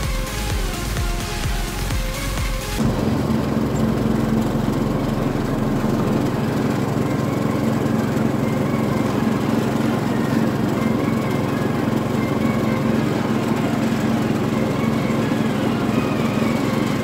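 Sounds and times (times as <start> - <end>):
riding lawn mower engine running: 0.0 - 17.0.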